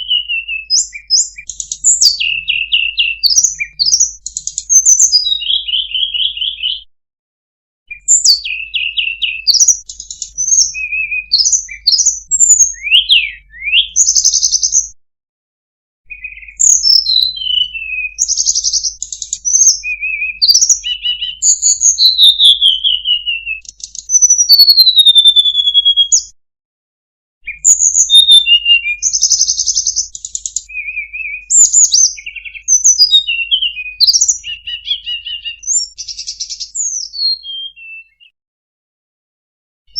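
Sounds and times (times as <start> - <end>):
bird singing trills and whistles: 0.0 - 6.9, 7.9 - 15.0, 16.1 - 26.4, 27.4 - 38.4.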